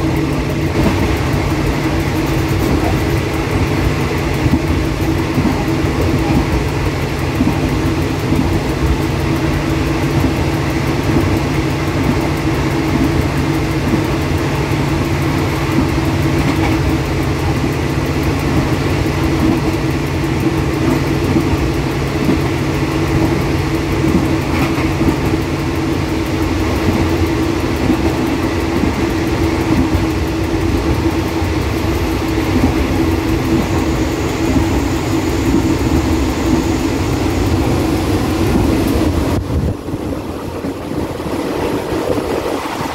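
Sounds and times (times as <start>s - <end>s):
train engine drone: 0.0s - 42.9s
wheels rumbling on rails: 0.0s - 42.9s.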